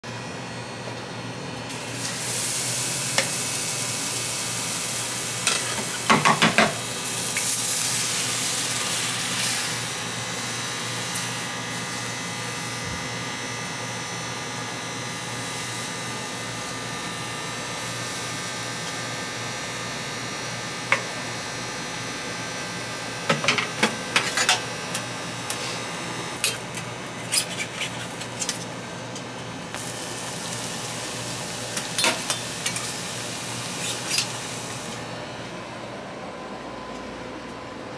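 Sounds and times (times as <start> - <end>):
batter sizzling on a griddle: 1.7 - 28.8, 29.7 - 35.0.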